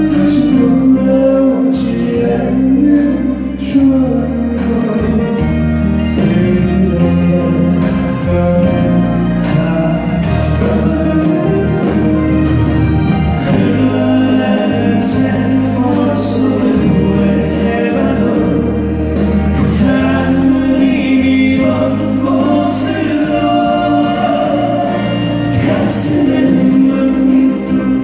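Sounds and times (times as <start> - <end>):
band playing: 0.0 - 28.0
person singing: 0.0 - 28.0.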